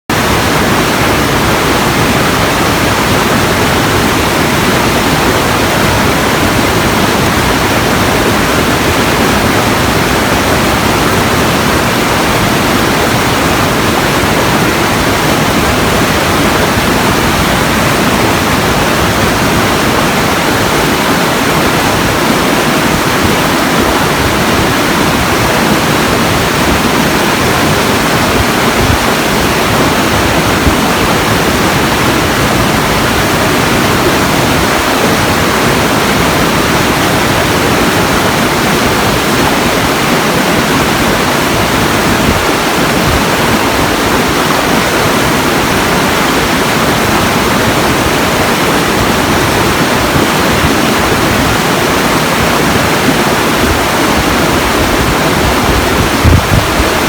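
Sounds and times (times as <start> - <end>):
steady rushing noise: 0.1 - 57.0.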